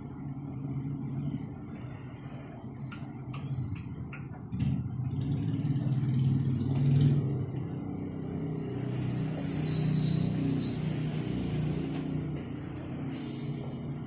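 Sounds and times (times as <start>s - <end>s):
low engine-like hum: 0.0s - 14.0s.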